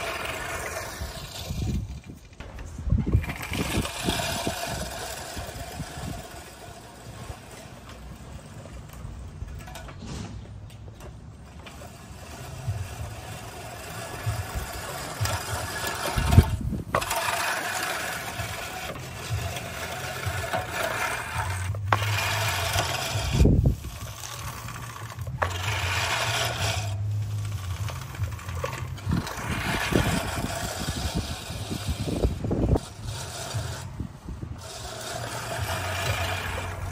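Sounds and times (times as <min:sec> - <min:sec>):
reel mower rattling whir: 0:00.0 - 0:09.9, 0:11.0 - 0:36.9.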